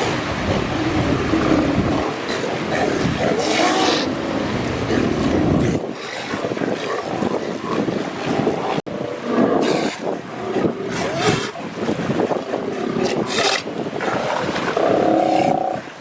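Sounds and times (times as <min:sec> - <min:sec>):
sea lions calling: 0:00.0 - 0:16.0
water noise: 0:00.0 - 0:16.0
wind: 0:00.0 - 0:16.0.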